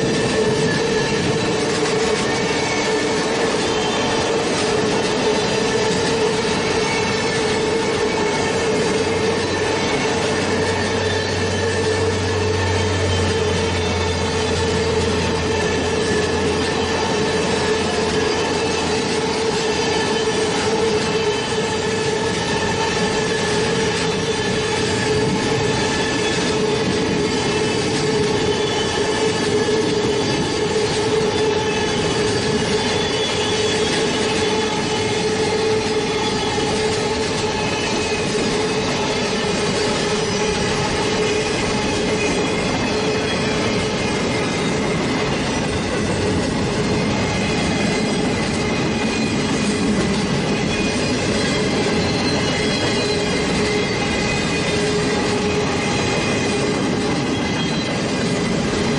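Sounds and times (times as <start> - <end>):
train running: 0.0 - 58.9.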